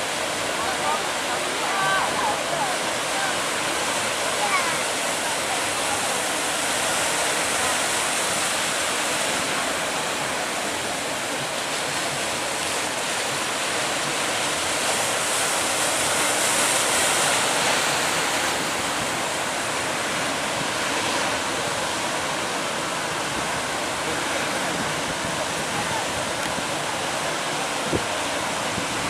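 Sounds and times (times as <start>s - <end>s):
heavy surf waves breaking: 0.0s - 29.0s.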